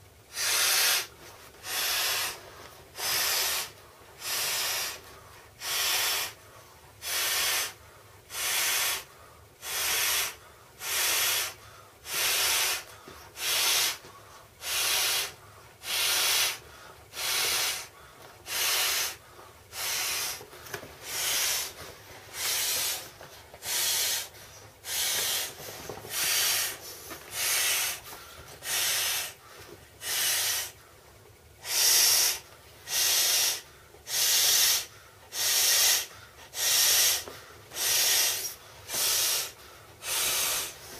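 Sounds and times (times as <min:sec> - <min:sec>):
breaths blown into inflatable valve: 0:00.3 - 0:02.4, 0:03.0 - 0:05.0, 0:07.0 - 0:14.0, 0:14.6 - 0:17.9, 0:18.5 - 0:20.4, 0:21.0 - 0:28.0, 0:30.0 - 0:30.7, 0:31.6 - 0:40.8.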